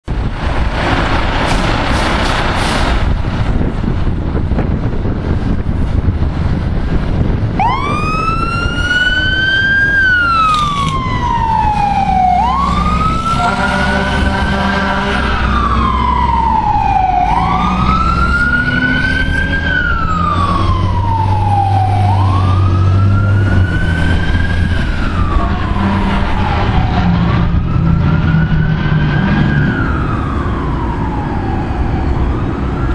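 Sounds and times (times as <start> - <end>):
rushing noise: 0.0 - 32.9
truck engine rumble: 0.0 - 32.9
fire engine siren wailing: 3.4 - 32.9.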